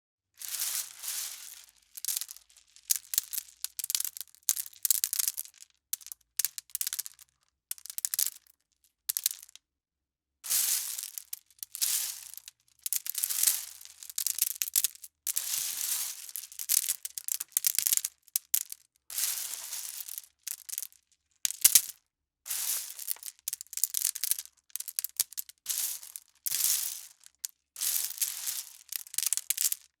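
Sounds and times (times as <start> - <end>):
pebbles rattling as they fall: 0.4 - 8.5, 9.1 - 9.6, 10.5 - 30.0.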